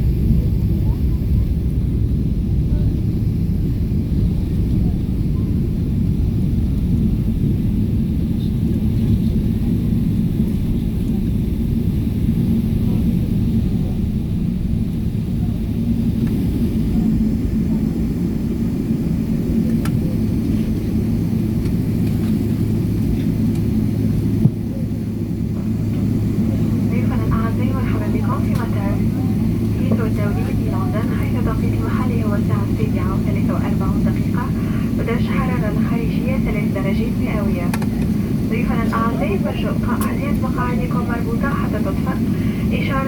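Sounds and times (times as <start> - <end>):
jet cabin rumble: 0.0 - 43.0
low steady hum: 0.0 - 43.0.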